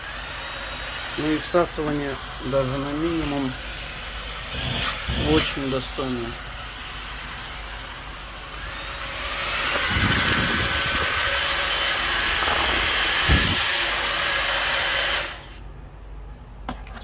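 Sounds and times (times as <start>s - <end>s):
vacuum cleaner motor whining: 0.0s - 15.6s.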